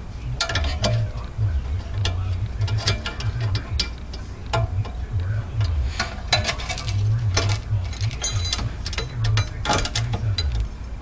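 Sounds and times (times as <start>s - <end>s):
low uneven rumble: 0.0s - 11.0s.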